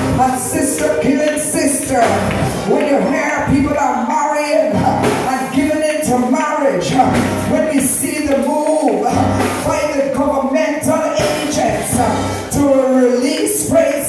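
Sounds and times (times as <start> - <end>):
electric keyboard: 0.0 - 14.0
woman singing into a microphone: 0.1 - 14.0.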